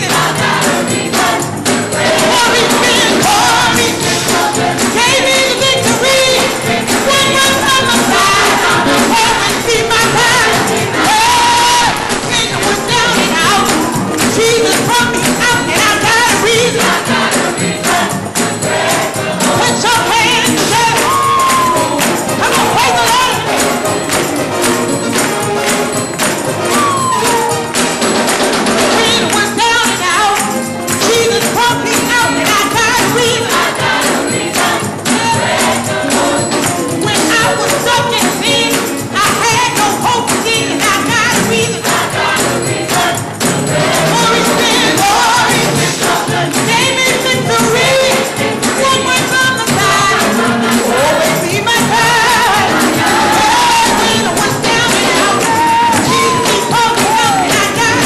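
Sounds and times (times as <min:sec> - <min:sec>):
band accompaniment: 0:00.0 - 0:58.0
gospel choir singing: 0:00.0 - 0:58.0
tambourine: 0:00.0 - 0:58.0.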